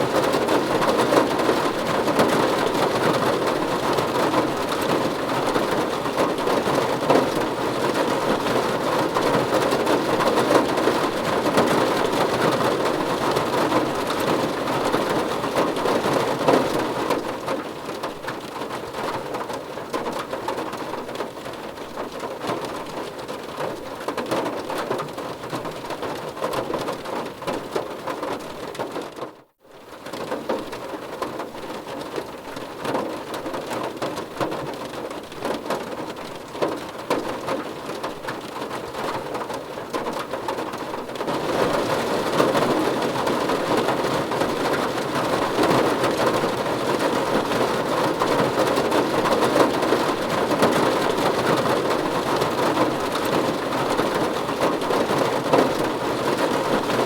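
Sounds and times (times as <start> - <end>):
heavy rain on car roof: 0.0 - 57.0.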